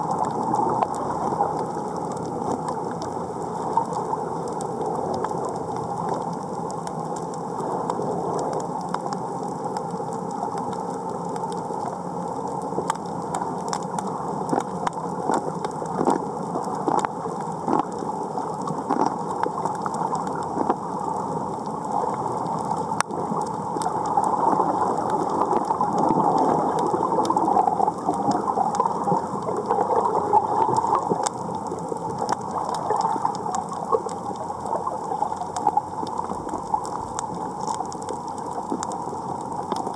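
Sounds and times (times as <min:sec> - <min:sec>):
crackle of sharp clicks: 0:00.0 - 0:39.9
muffled underwater wash: 0:00.0 - 0:39.9.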